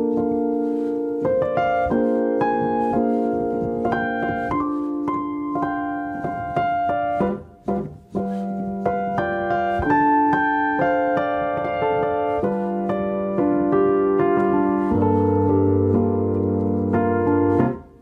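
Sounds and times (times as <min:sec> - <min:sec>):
solo piano chords: 0:00.0 - 0:18.0.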